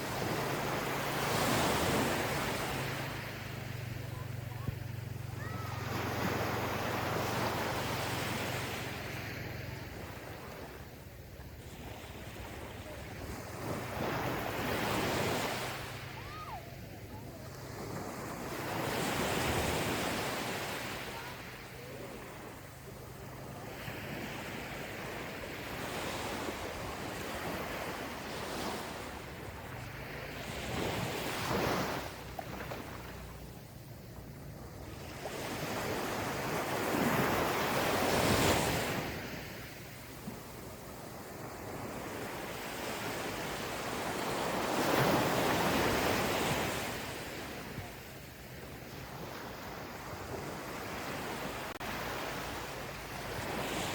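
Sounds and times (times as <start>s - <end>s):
low rush of sea: 0.0s - 53.9s
ocean waves breaking on beach: 0.0s - 53.9s.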